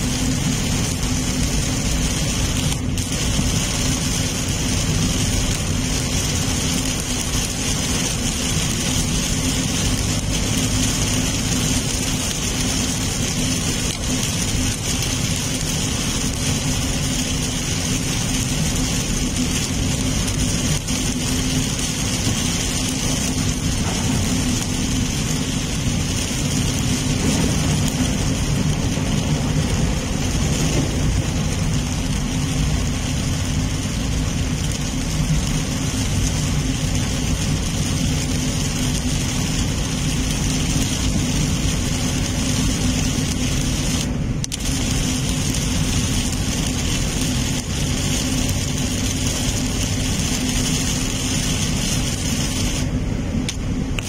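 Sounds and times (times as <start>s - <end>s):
heavy rain on car: 0.0s - 54.0s
tyres on wet road: 0.0s - 54.0s.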